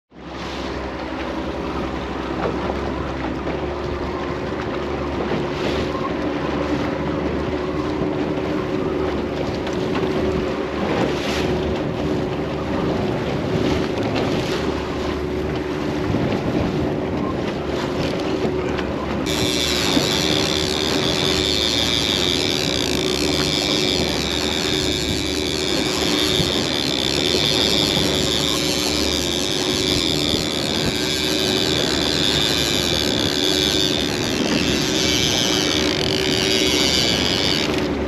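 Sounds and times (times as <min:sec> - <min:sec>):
outboard motor running: 0:00.1 - 0:38.0
water rushing along hull: 0:00.1 - 0:38.0
water splashes: 0:00.1 - 0:38.0
wind buffeting microphone: 0:00.7 - 0:38.0.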